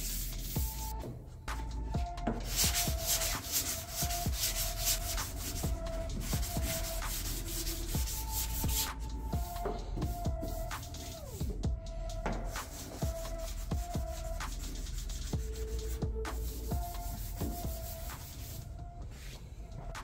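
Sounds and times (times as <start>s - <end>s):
sanding block scrubbing: 0.0s - 0.9s, 2.2s - 11.5s, 12.3s - 18.7s.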